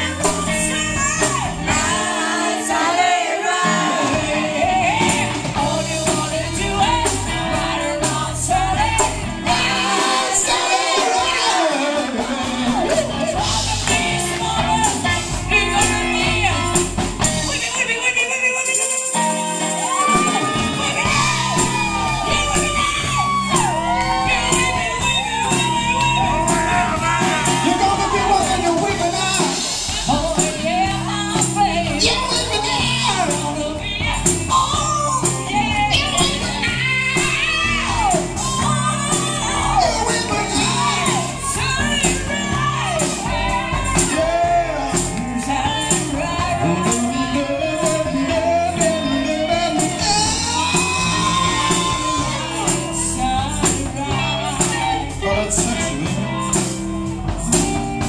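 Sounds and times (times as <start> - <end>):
bass guitar: 0.0 - 58.0
drum kit with cymbals: 0.0 - 58.0
electric guitars: 0.0 - 58.0
live band playing: 0.0 - 58.0
people singing together: 0.0 - 58.0.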